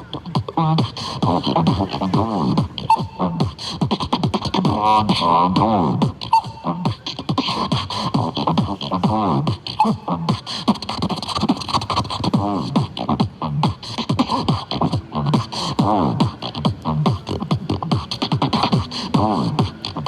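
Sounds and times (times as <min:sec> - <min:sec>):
person beatboxing: 0:00.0 - 0:20.0.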